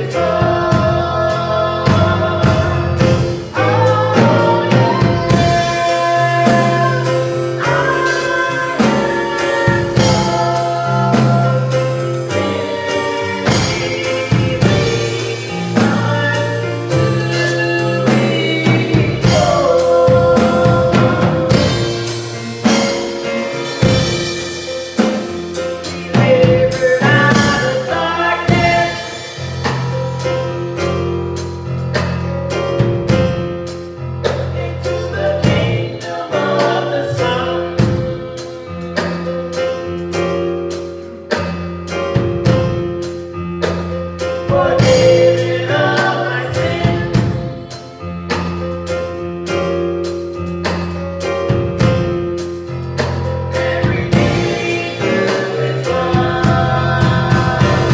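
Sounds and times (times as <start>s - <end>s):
voices singing gospel: 0.0s - 40.5s, 41.2s - 49.8s, 50.6s - 57.9s
drum kit beat: 0.0s - 57.9s.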